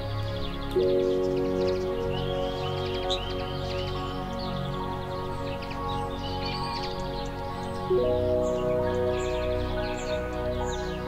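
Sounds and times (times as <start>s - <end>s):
music with held chords: 0.0s - 11.0s.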